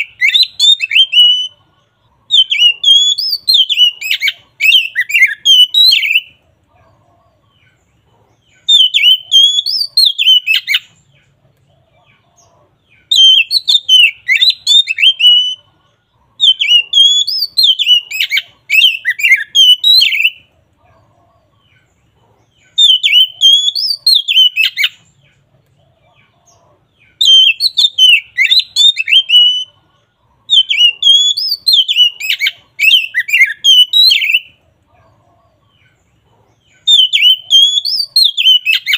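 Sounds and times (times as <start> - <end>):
songbird whistling song: 0.0 - 38.9.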